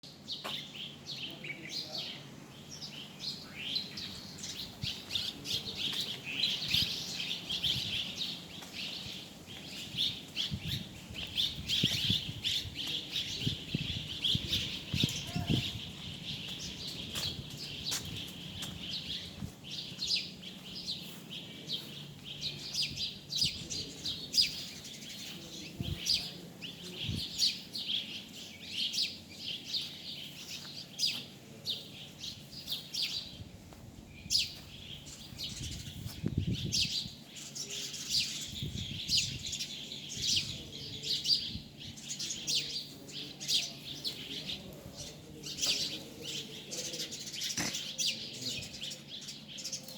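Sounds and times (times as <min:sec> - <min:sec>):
flock of birds chirping: 0:00.0 - 0:49.9.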